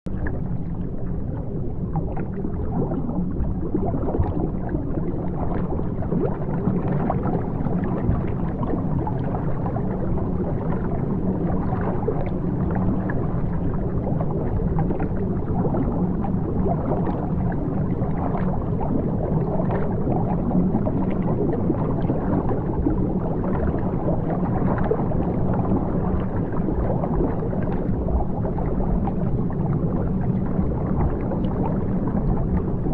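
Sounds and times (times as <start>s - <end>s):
aquarium water bubbling: 0.1s - 32.9s
low even hum: 0.1s - 32.9s.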